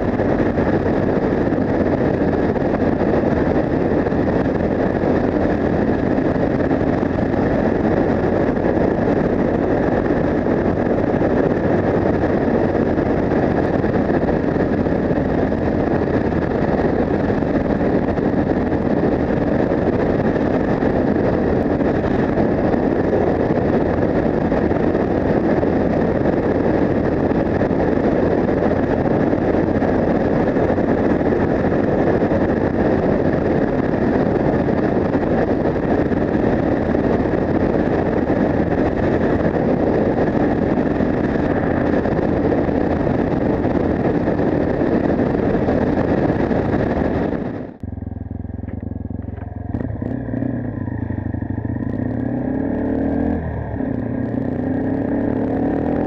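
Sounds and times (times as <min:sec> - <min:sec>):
motorcycle engine running steadily: 0:00.0 - 0:56.0
wind rushing over microphone: 0:00.0 - 0:56.0.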